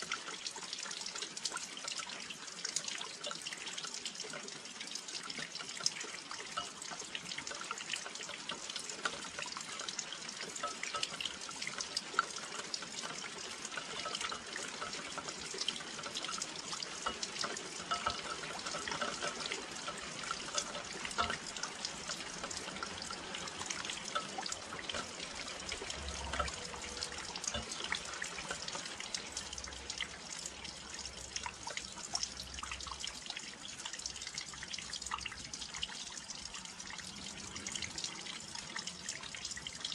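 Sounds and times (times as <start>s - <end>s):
rain drops ticking on windowsill: 0.0s - 39.9s.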